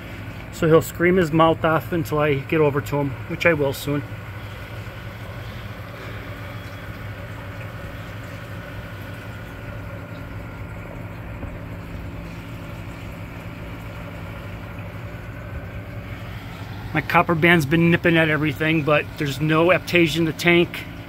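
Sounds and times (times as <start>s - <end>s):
aquarium pumps humming: 0.0s - 21.0s.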